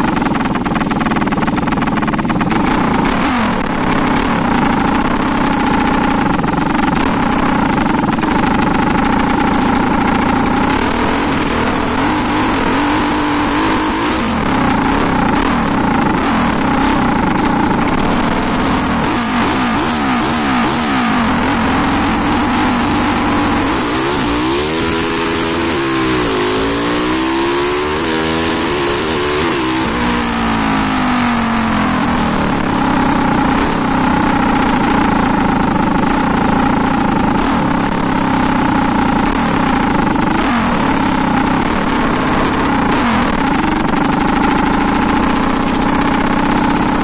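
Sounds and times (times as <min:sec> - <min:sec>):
engine revving: 0:00.0 - 0:47.0.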